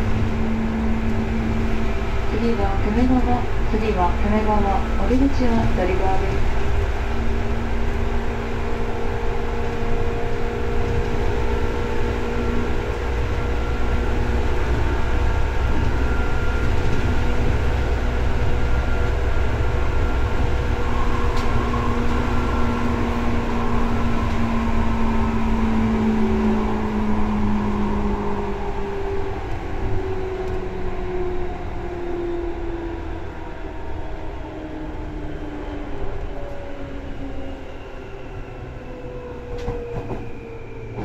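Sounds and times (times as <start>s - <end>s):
train wheels rumbling: 0.0s - 41.0s.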